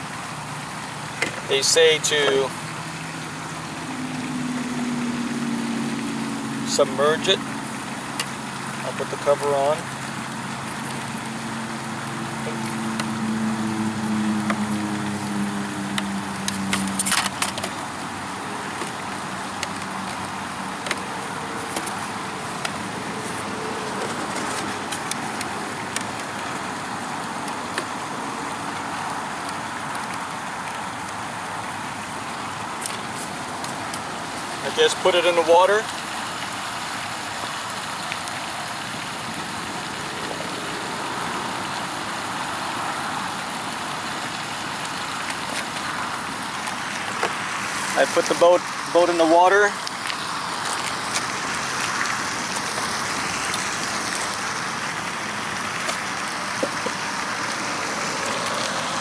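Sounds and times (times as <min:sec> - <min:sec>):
traffic hiss: 0:00.0 - 0:59.0.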